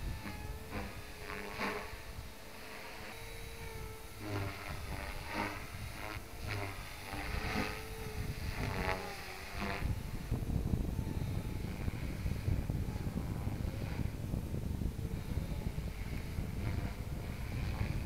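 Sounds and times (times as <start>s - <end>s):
rc helicopter rotor whirring: 0.0s - 18.0s
wind buffeting microphone: 0.0s - 18.0s.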